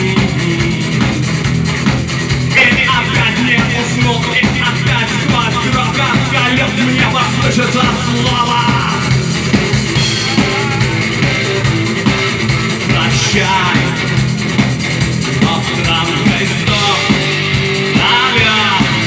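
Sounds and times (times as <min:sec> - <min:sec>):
person singing: 0:00.0 - 0:01.5, 0:02.6 - 0:14.4, 0:15.3 - 0:19.0
drum kit: 0:00.0 - 0:19.0
electric guitar: 0:00.0 - 0:19.0.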